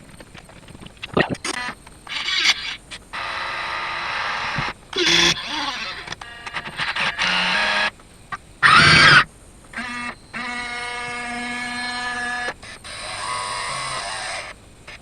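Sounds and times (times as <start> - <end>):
electric motor whine bursts: 1.2 - 8.0, 8.6 - 15.0.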